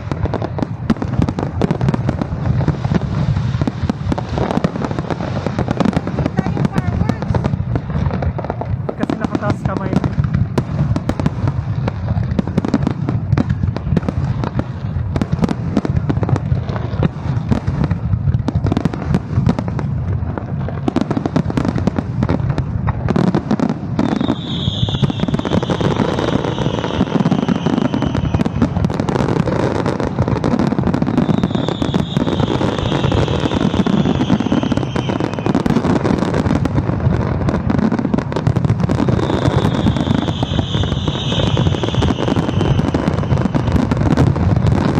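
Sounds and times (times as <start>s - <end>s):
fireworks bangs and crackle: 0.0s - 44.9s.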